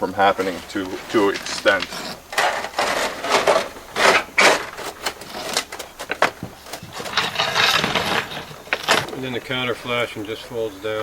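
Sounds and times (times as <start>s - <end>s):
sheet metal rubbing and crinkling: 0.0s - 11.0s.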